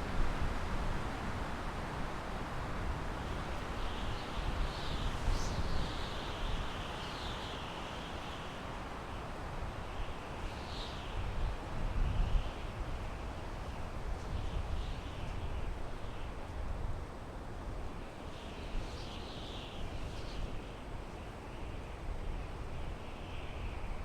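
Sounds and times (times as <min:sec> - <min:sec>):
wind through pine trees: 0:00.0 - 0:24.0.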